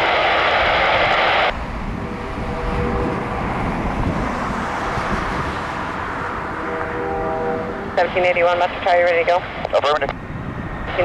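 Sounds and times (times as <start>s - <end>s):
faint steady tones: 0.0s - 11.0s
jet engines rumbling: 0.0s - 11.0s.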